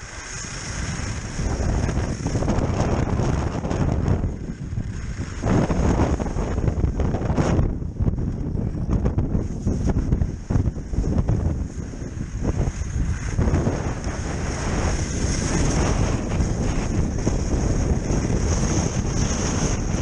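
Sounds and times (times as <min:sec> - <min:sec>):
skis sliding over snow: 0:00.0 - 0:20.0
wind buffeting microphone: 0:00.0 - 0:20.0.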